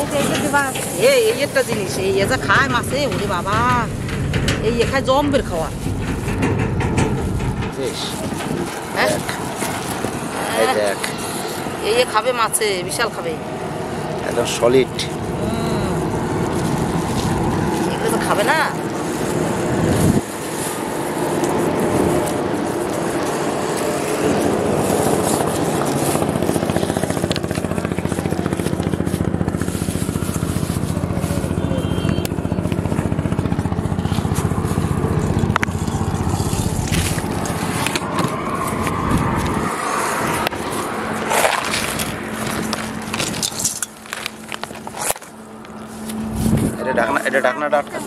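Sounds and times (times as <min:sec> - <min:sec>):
motor engine running: 0:00.0 - 0:47.1.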